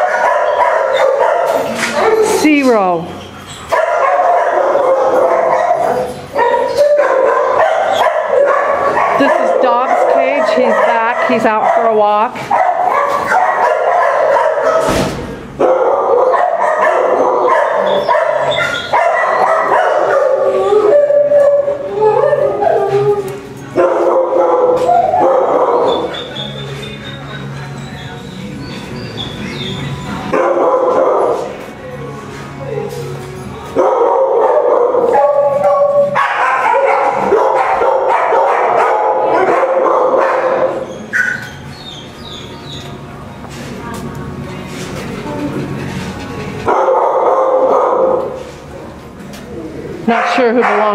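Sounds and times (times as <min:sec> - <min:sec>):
dogs barking and yipping: 0:00.0 - 0:31.7, 0:32.8 - 0:43.3, 0:45.0 - 0:50.9.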